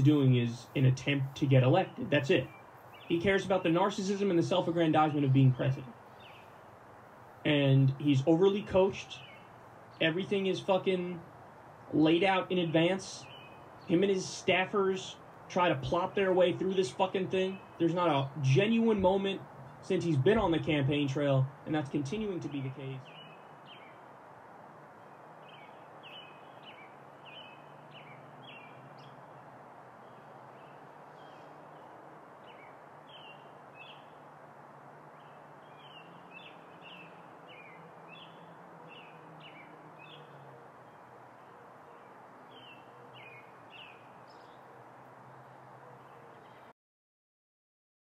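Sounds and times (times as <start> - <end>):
background hiss: 0.0 - 46.7
faint birds chirping: 0.0 - 46.7.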